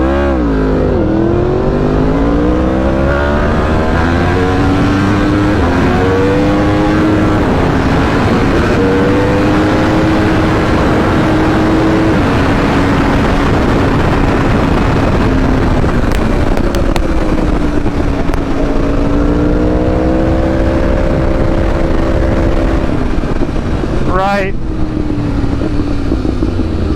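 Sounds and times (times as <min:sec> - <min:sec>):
road noise: 0:00.0 - 0:26.9
vehicle engine cruising: 0:00.0 - 0:26.9
wind noise: 0:00.0 - 0:26.9.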